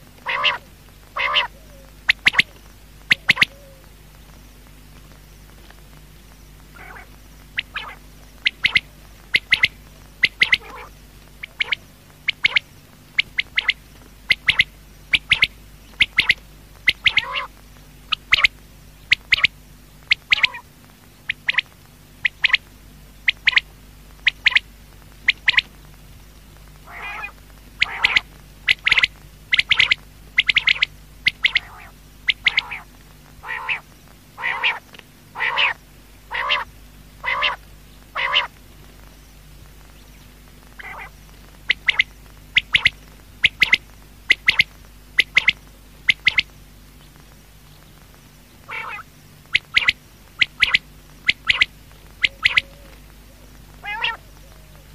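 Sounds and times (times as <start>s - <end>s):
steady low hum: 0.0s - 54.9s
quail calling: 0.2s - 3.9s, 6.7s - 25.7s, 26.8s - 38.6s, 40.7s - 46.5s, 48.6s - 54.9s.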